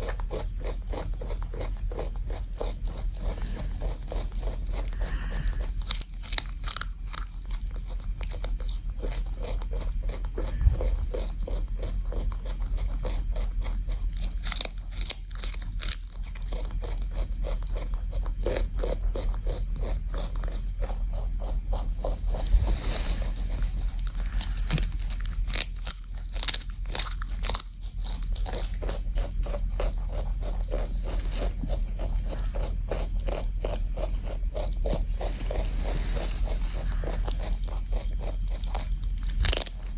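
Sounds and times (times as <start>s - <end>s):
rabbit crunching celery: 0.0s - 39.9s.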